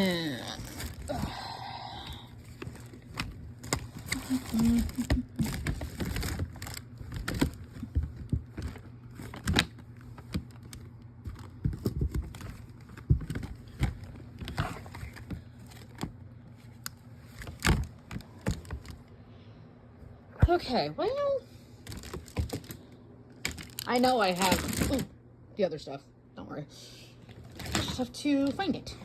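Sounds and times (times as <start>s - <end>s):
plastic crinkling: 0.0s - 19.2s, 21.8s - 25.1s, 27.2s - 29.0s
low steady hum: 0.0s - 29.0s.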